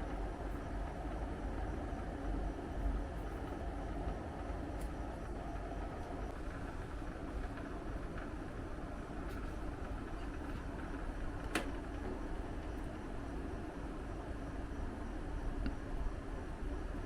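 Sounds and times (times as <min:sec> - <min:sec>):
air conditioner fan noise: 0:00.0 - 0:17.0.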